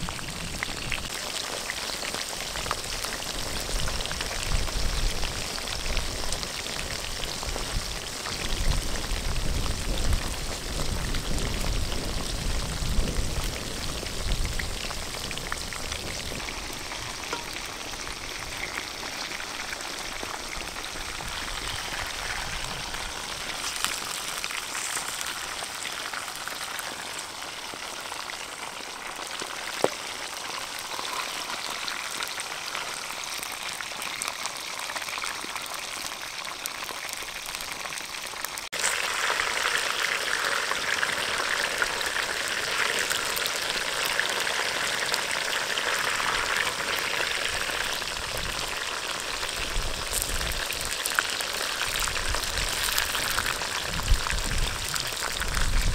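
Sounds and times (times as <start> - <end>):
food sizzling in hot oil: 0.0 - 55.9.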